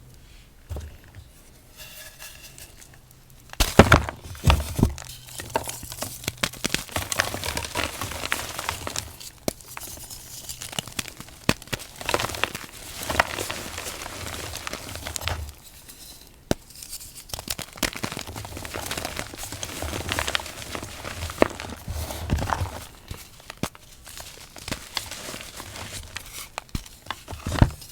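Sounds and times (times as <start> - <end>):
chalk crunching and crumbling: 3.5 - 27.9.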